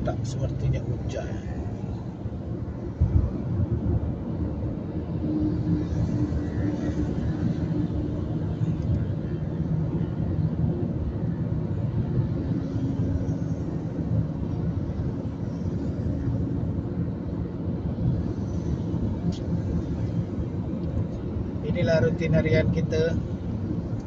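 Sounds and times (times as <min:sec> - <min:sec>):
road and wind noise: 0:00.0 - 0:24.0
vehicle engine drone: 0:00.0 - 0:24.0.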